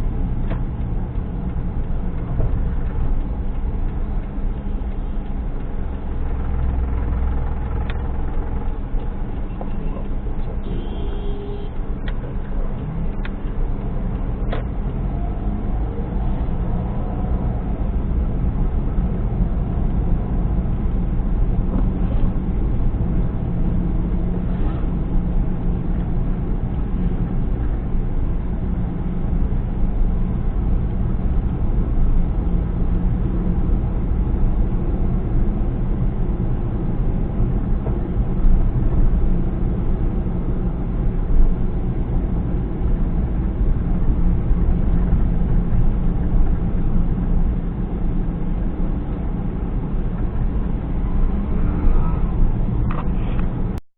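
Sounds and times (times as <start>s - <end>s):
car engine and road rumble: 0.0s - 53.8s.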